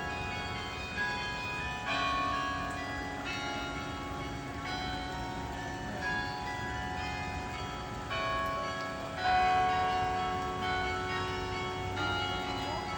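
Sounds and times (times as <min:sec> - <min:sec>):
bell tower bells ringing: 0:00.0 - 0:12.9.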